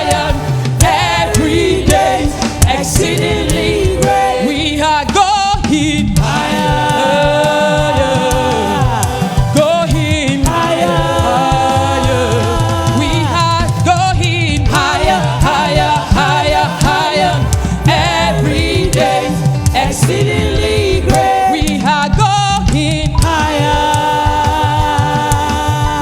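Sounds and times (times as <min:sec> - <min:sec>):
choir singing gospel: 0:00.0 - 0:26.0.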